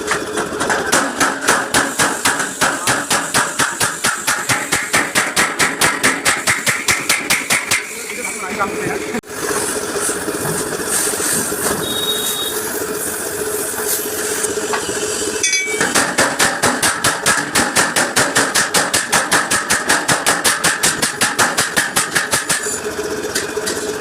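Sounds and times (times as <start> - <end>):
workshop hum: 0.0 - 24.0.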